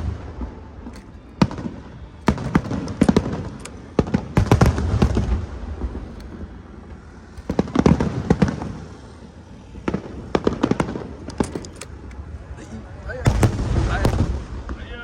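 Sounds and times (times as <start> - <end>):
fireworks booming and crackling: 0.0 - 11.4, 13.2 - 15.0.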